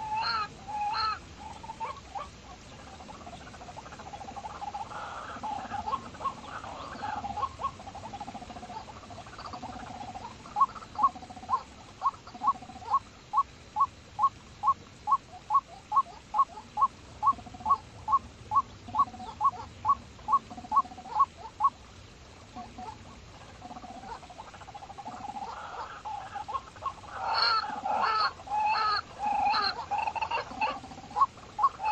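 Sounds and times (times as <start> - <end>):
lower warbling bird call: 0.0 - 21.9, 22.5 - 31.9.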